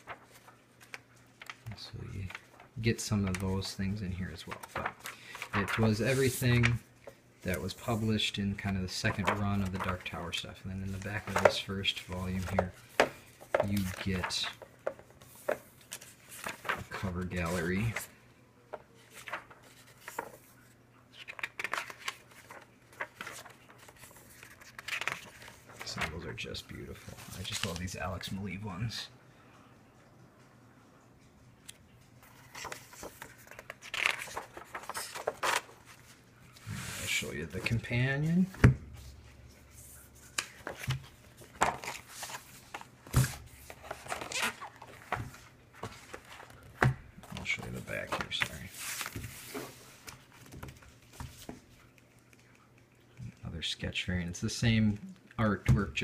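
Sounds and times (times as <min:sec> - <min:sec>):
book pages turning: 0:00.0 - 0:29.0, 0:31.6 - 0:53.5.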